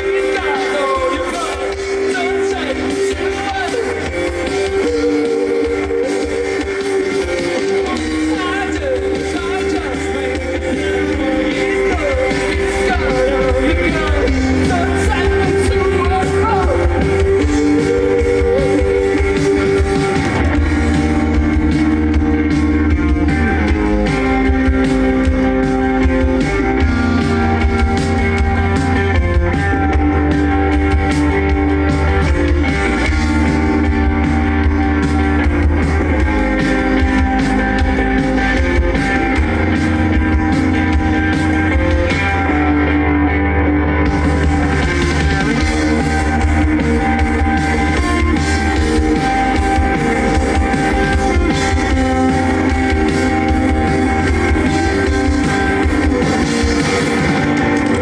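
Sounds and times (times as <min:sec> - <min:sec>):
electric guitar: 0:00.0 - 0:58.0
heavy bass line: 0:00.0 - 0:58.0
live rock band playing: 0:00.0 - 0:58.0.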